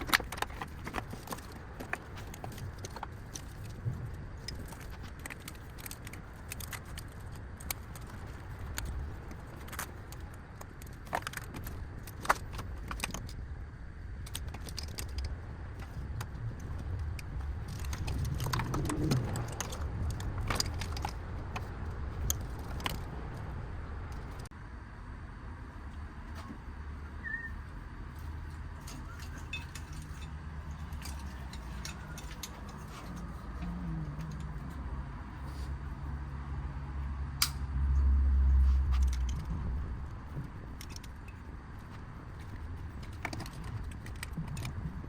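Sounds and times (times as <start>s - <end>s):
steady low rumble: 0.0s - 45.0s.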